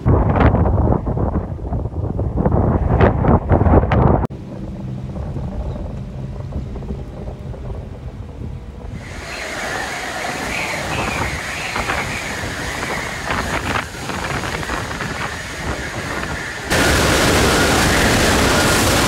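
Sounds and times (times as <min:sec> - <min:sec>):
high wind whistle: 0:00.0 - 0:19.0
strong wind gusting: 0:00.0 - 0:19.0.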